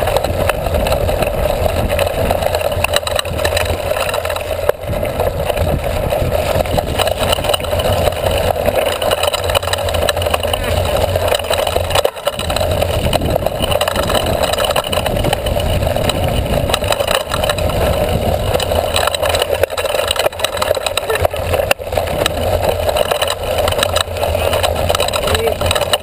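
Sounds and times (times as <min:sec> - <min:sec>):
bike tyres rumbling on dirt: 0:00.0 - 0:26.0.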